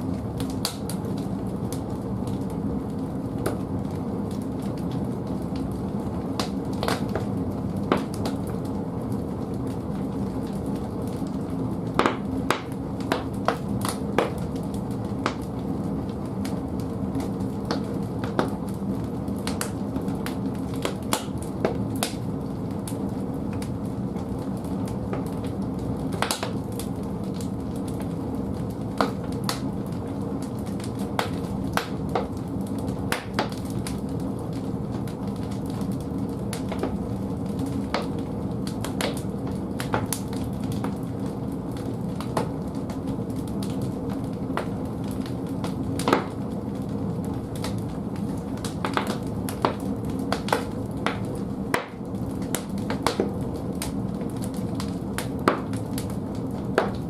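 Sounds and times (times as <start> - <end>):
logs crackling and popping: 0.0 - 57.0
low rumble of fire: 0.0 - 57.0.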